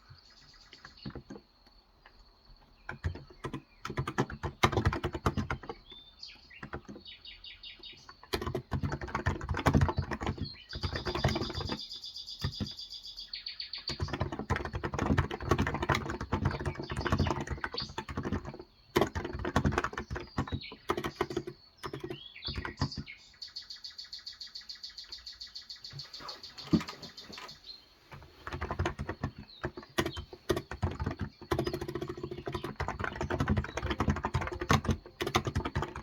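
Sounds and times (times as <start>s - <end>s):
birds chirping: 0.0s - 36.0s
fast keyboard typing: 0.7s - 1.5s, 2.1s - 7.2s, 7.9s - 12.8s, 13.9s - 23.1s, 26.6s - 36.0s.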